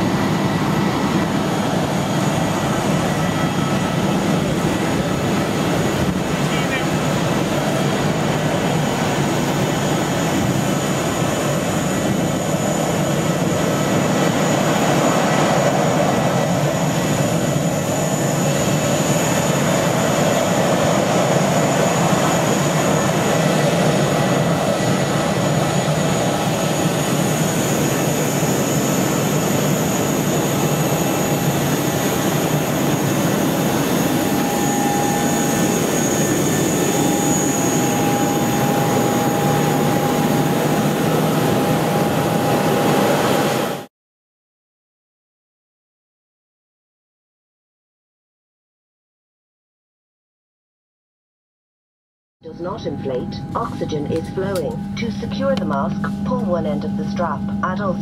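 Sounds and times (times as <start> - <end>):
jet aircraft noise: 0.0 - 43.9, 52.5 - 58.0.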